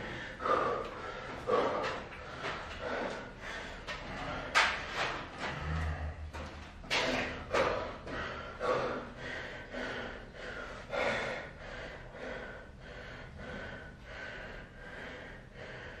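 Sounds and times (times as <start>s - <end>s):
man breathing hard: 0.0s - 16.0s.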